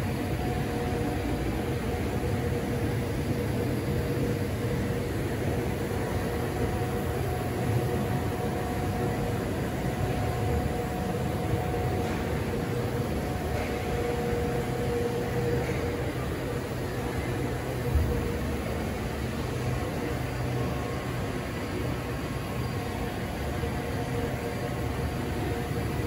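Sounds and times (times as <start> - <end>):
faint held whine: 0.0 - 26.0
workshop hum: 0.0 - 26.0.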